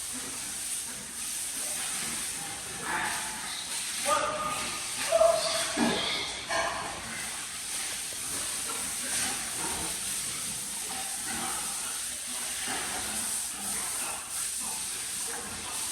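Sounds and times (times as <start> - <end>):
water spraying with hiss: 0.0 - 15.9.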